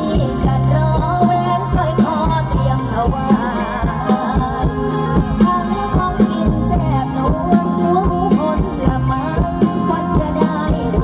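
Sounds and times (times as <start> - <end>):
steady bass notes: 0.0 - 11.0.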